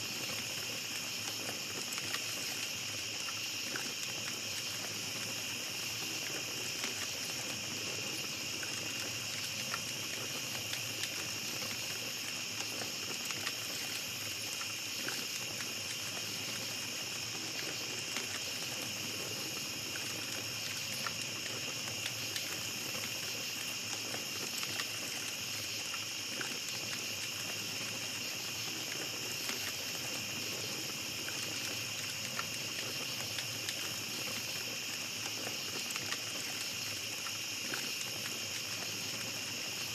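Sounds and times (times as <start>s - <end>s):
campfire crackling: 0.0s - 39.9s
night insects chorus: 0.0s - 39.9s.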